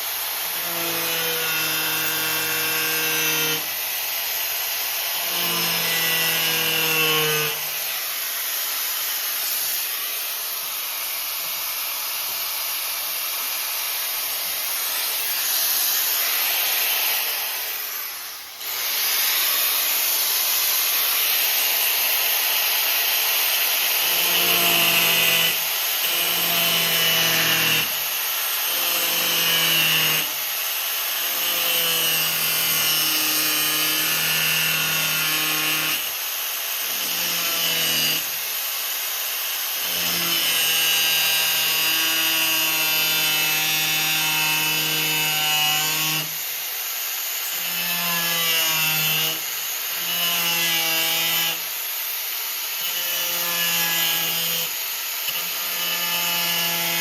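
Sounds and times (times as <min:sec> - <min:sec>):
power tool cutting sheet metal: 0:00.0 - 0:57.0.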